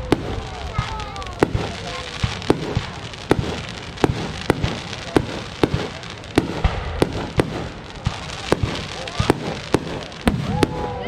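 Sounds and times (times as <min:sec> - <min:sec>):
continuous hiss: 0:00.0 - 0:11.0
fireworks bangs: 0:00.0 - 0:11.0.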